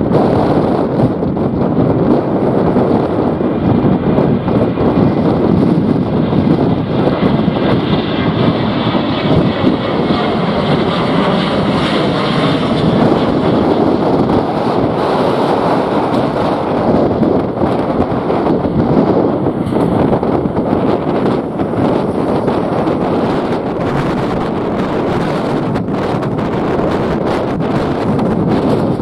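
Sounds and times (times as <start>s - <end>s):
jet engines roaring: 0.0s - 29.0s
wind buffeting microphone: 0.0s - 29.0s.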